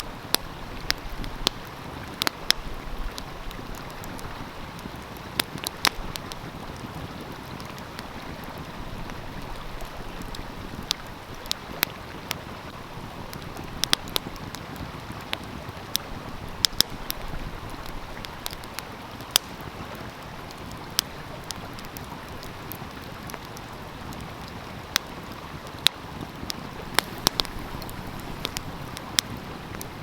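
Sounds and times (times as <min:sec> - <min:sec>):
flowing stream: 0:00.0 - 0:30.0
wood fire crackling: 0:00.0 - 0:30.0.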